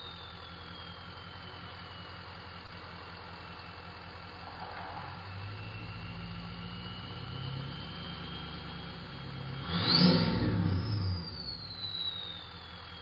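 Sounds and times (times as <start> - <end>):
diesel engine revving: 0.0 - 13.0
turbocharger whistle: 0.0 - 13.0.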